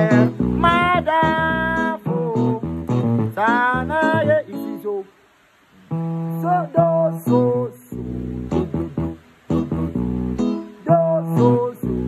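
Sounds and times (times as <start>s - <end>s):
keyboard in guitar-like voice: 0.0s - 5.1s, 5.8s - 12.0s.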